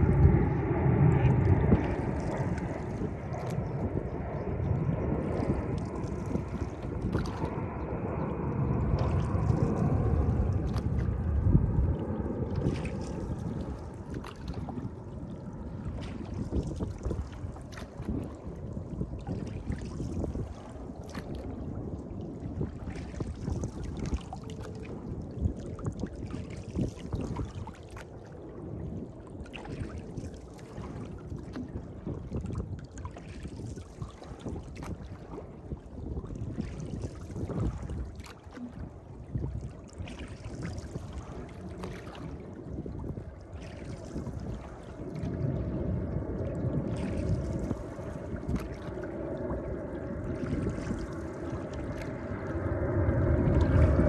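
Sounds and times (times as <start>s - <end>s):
water rushing along hull: 0.0s - 54.0s.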